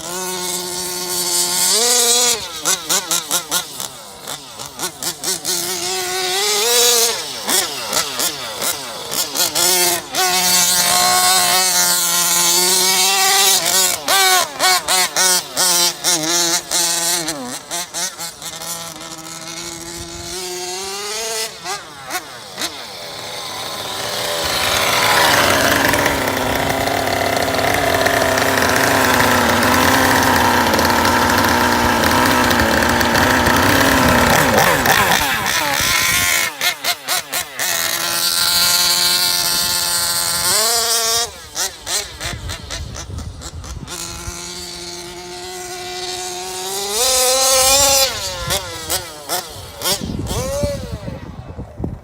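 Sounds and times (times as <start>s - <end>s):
two-stroke model engine revving: 0.0s - 52.0s.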